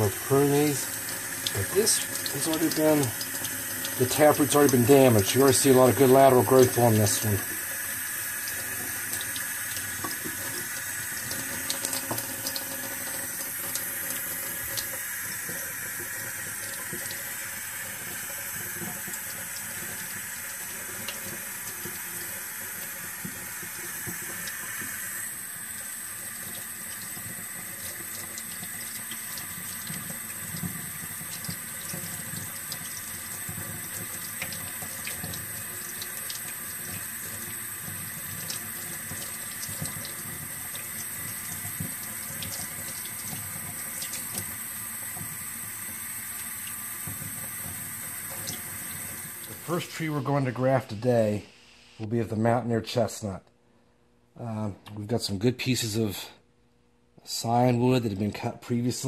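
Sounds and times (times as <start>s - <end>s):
faucet running into metal sink: 0.0s - 50.0s.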